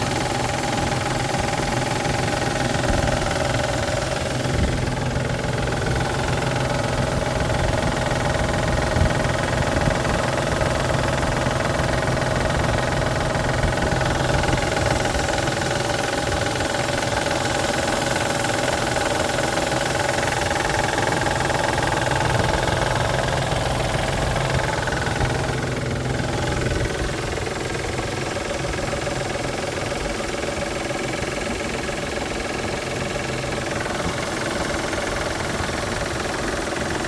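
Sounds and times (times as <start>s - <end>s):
car engine idling with knocking: 0.0s - 37.0s.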